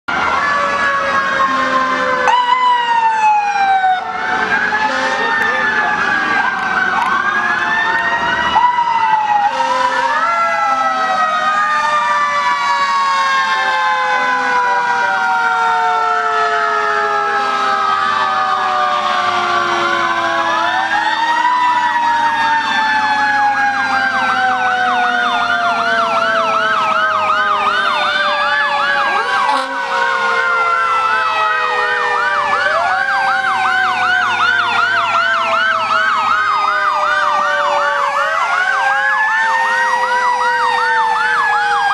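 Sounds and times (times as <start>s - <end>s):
fire engine sirens wailing: 0.1s - 41.9s
rapid siren yelp: 0.1s - 41.9s.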